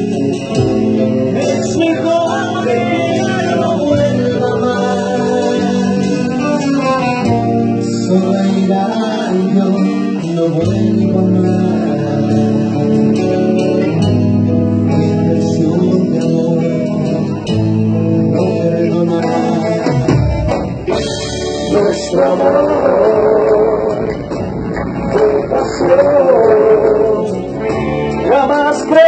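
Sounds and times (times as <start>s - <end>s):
men singing into microphones: 0.0s - 14.0s, 14.8s - 29.0s
guitar-led band playing: 0.0s - 29.0s.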